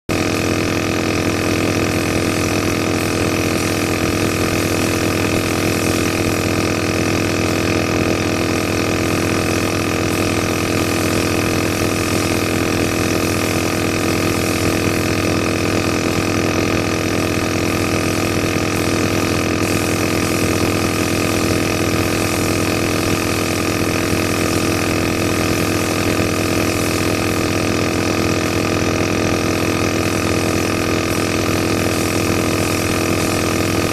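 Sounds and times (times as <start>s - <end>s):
compressor motor humming: 0.1s - 33.9s.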